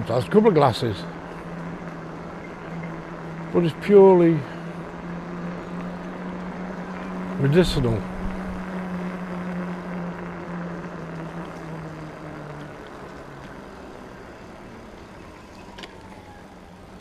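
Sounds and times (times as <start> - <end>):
traffic hiss: 0.0 - 17.0
vehicle engine hum and tyres: 0.0 - 17.0.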